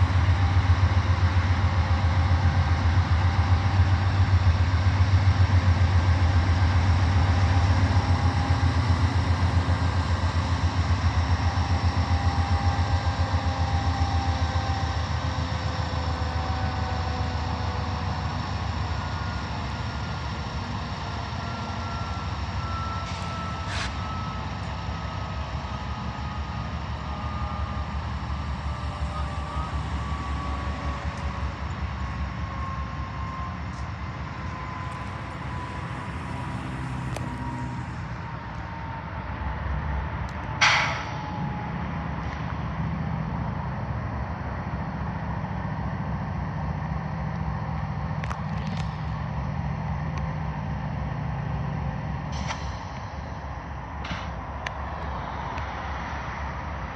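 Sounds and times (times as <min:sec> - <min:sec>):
diesel locomotive engine rumbling: 0:00.0 - 0:56.9.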